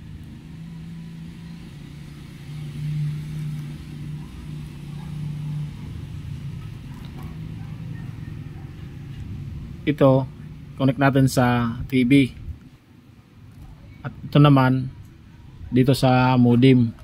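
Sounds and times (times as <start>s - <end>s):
low engine hum: 0.0s - 15.8s.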